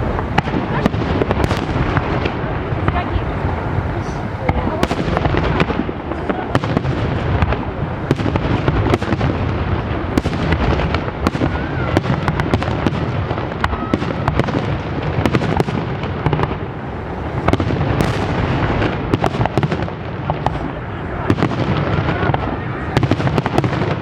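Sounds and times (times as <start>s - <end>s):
fireworks bangs and crackling: 0.0s - 24.0s
fireworks launches and booms: 0.0s - 24.0s.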